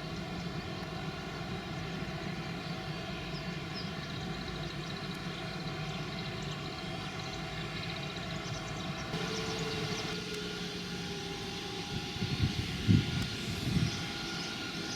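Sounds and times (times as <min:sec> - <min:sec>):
distant jet engines rumbling: 0:00.0 - 0:14.9.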